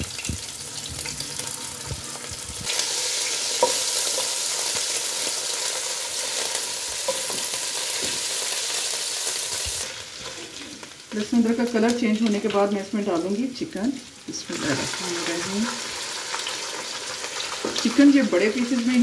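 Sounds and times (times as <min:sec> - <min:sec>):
paste sizzling in hot oil: 0:00.0 - 0:19.0.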